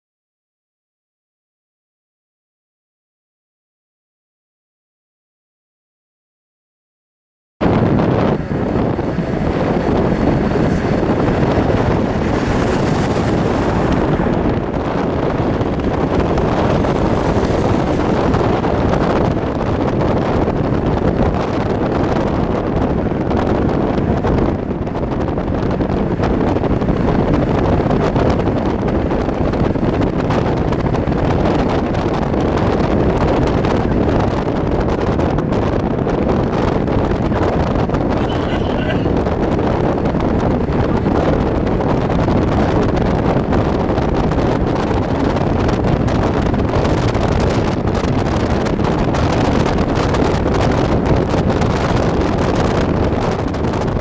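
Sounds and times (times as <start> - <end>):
vehicle engine rumble: 7.6 - 54.0
wind buffeting microphone: 7.6 - 54.0.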